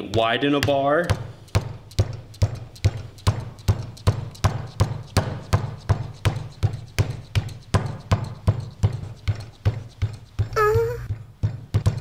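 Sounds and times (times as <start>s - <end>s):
hammer knocking on plasticine: 0.0s - 12.0s.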